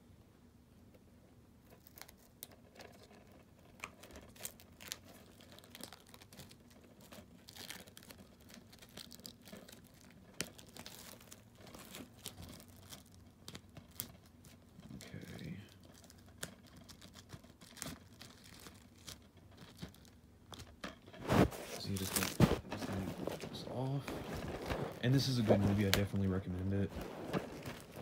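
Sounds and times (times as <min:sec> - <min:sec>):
plastic shrink-wrap crinkling: 0:01.7 - 0:28.0.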